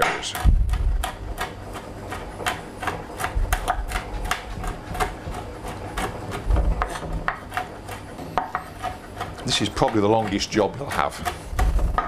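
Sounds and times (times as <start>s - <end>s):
knife chopping on a board: 0.0s - 12.0s.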